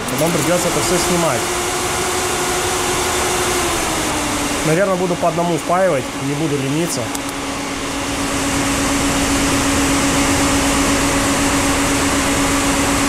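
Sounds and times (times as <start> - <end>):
cooling fan whirring: 0.0 - 13.0.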